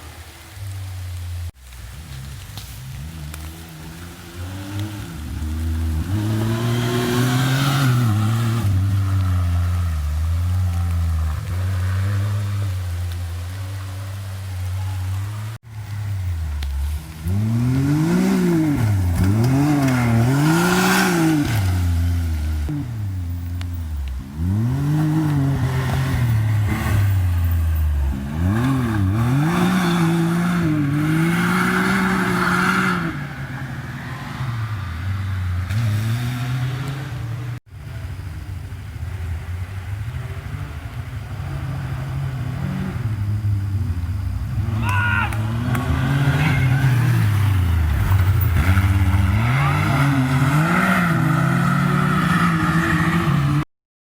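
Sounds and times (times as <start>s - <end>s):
engine revving: 0.0s - 37.6s, 39.1s - 53.7s.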